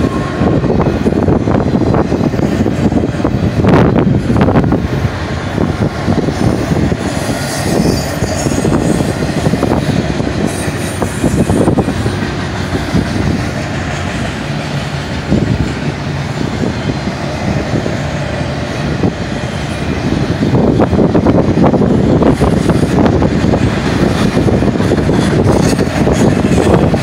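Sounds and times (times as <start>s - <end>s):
freight train wheels rumbling: 0.0s - 27.0s
train cars knocking and clanking: 0.0s - 27.0s.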